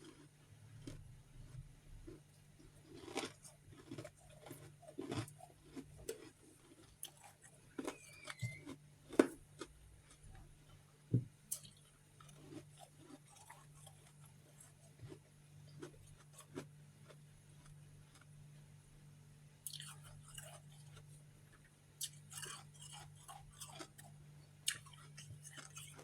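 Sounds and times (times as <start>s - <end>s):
chewing crunchy ice: 0.0s - 10.8s, 11.5s - 18.4s, 19.7s - 21.2s, 22.0s - 26.0s.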